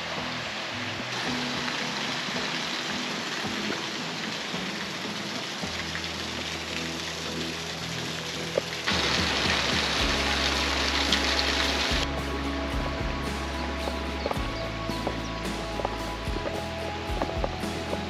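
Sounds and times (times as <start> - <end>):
faint background music: 0.0 - 18.0
stream and small waterfalls: 0.0 - 18.0.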